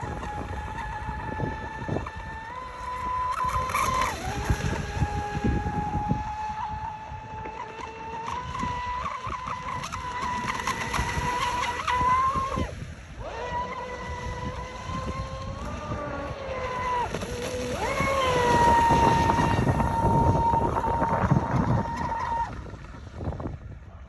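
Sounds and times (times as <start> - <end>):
model boat motor whining: 0.0 - 24.0.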